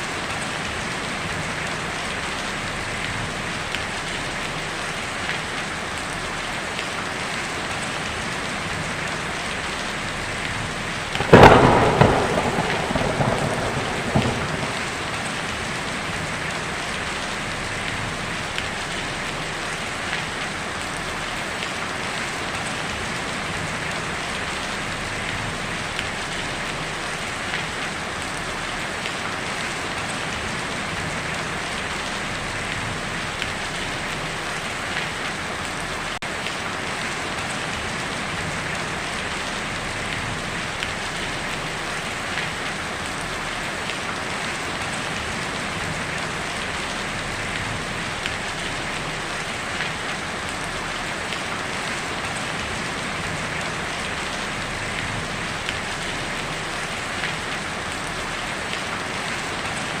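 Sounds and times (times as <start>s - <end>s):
heavy rain on a tin roof: 0.0s - 60.0s.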